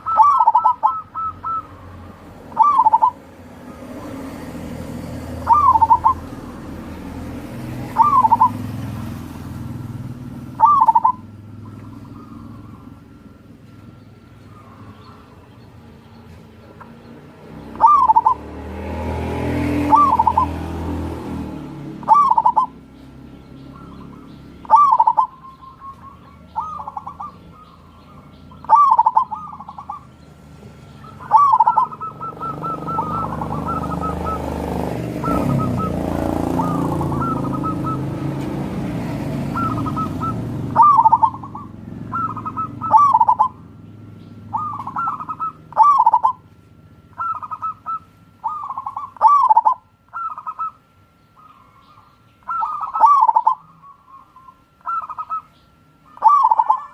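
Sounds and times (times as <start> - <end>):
dove cooing: 0.0 - 43.8, 44.4 - 56.9.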